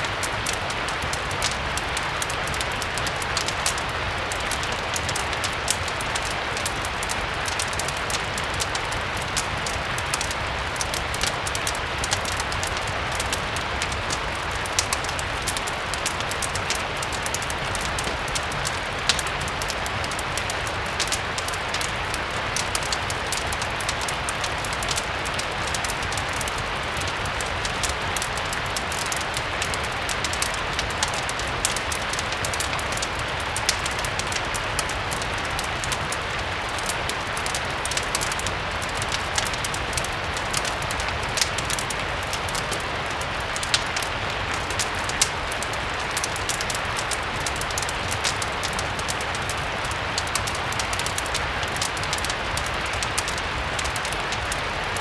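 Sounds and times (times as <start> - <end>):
fireplace crackling: 0.0 - 55.0
steady rain hiss: 0.0 - 55.0.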